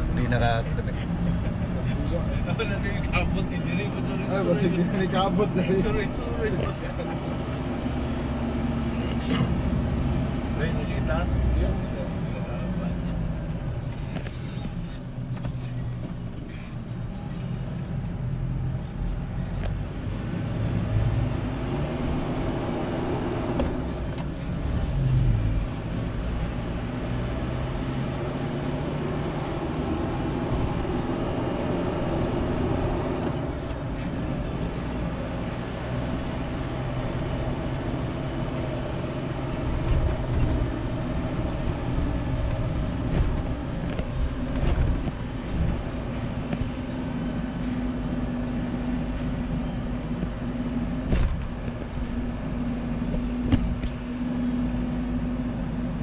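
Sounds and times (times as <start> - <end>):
diesel truck engine: 0.0 - 56.0
road noise: 0.0 - 56.0.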